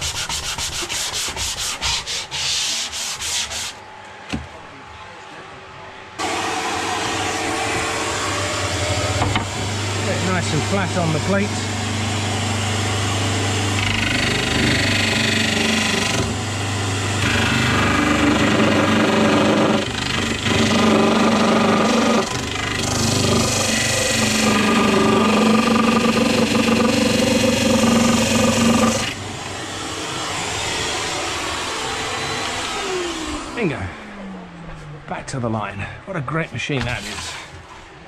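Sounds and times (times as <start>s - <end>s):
belt sander grinding wood: 0.0s - 3.8s, 6.2s - 33.8s.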